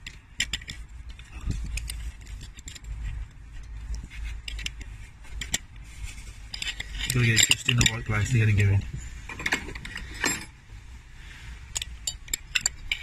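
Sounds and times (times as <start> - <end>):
spanner clicking and scraping metal: 0.0 - 10.5, 11.7 - 13.0.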